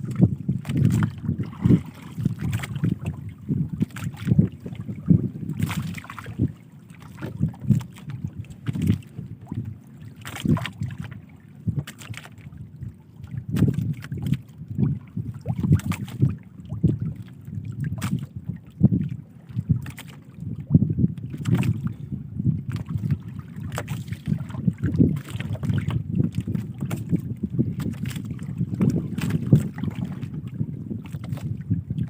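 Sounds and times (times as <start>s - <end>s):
water sloshing against boat hull: 0.0s - 32.0s.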